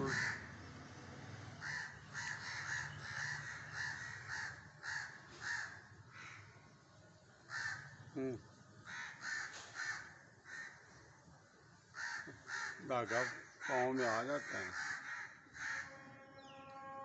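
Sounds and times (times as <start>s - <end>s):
crows cawing: 0.0s - 0.6s, 1.6s - 6.7s, 7.4s - 11.1s, 11.8s - 16.3s.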